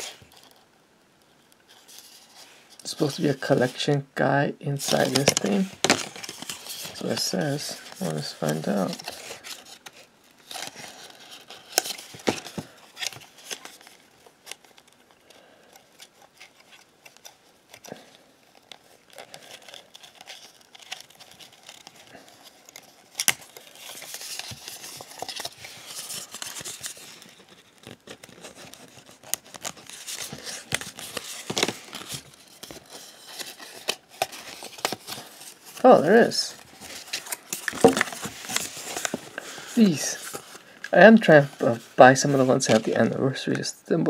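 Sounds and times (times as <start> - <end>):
paper crinkling and scraping: 0.0 - 0.6, 1.7 - 4.0, 4.7 - 43.8
paper rustling: 1.7 - 4.0, 4.7 - 43.7.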